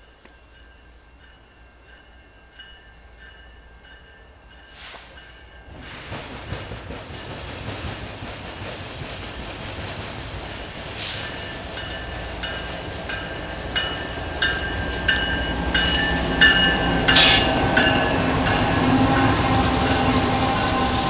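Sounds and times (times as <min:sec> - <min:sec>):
train engine rumble: 0:00.0 - 0:21.0.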